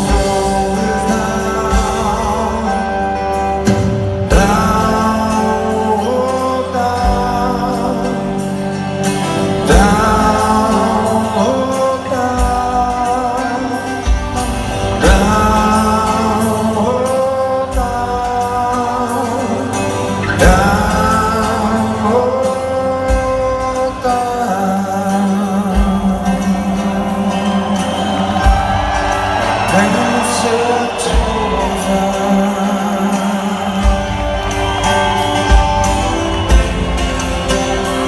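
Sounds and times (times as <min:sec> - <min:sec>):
bass guitar: 0:00.0 - 0:38.0
drums: 0:00.0 - 0:38.0
electric guitars: 0:00.0 - 0:38.0.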